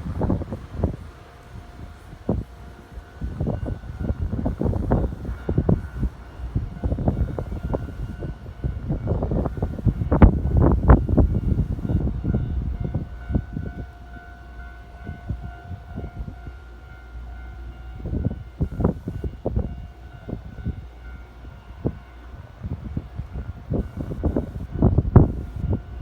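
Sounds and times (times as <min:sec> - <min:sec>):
electric train running past: 0:00.0 - 0:26.0
steady train whine: 0:00.0 - 0:26.0.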